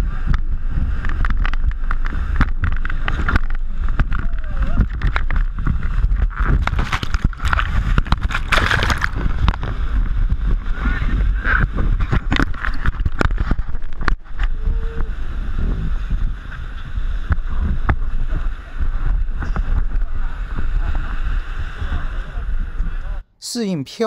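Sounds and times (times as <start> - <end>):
wind buffeting microphone: 0.0 - 23.2.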